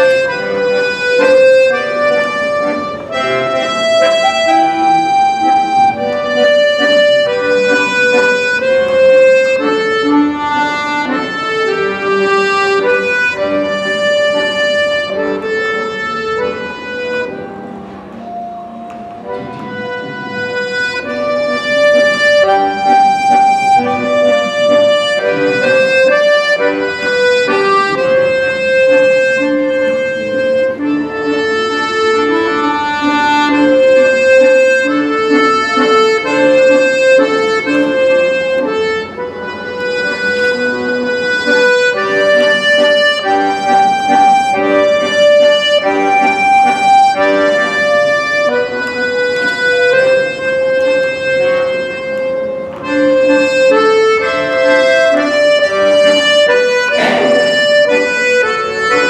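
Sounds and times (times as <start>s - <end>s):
accordion music: 0.0s - 59.0s.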